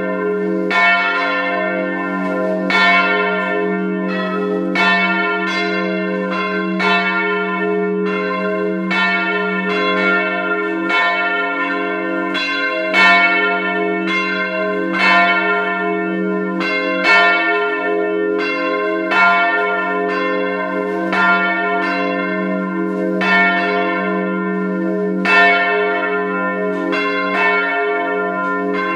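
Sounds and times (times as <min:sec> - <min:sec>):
church bells pealing: 0:00.0 - 0:28.9
low hum from bells: 0:00.0 - 0:28.9.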